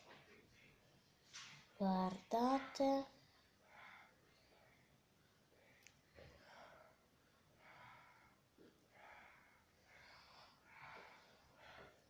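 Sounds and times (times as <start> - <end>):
faint soft breaths: 0.0 - 12.0.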